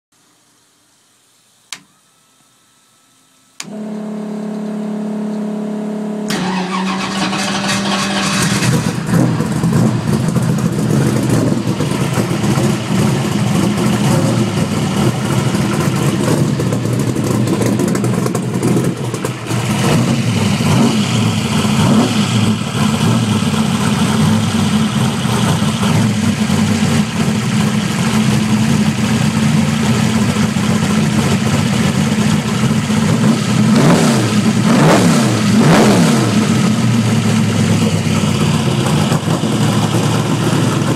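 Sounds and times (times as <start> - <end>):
engine throttle blips: 3.6 - 40.9
race engine idling: 3.7 - 40.9.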